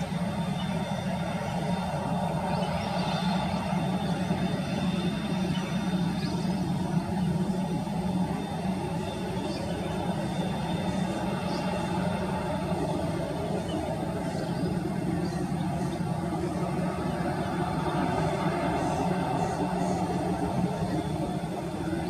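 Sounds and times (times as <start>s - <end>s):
distant jet engine rumble: 0.0s - 22.0s.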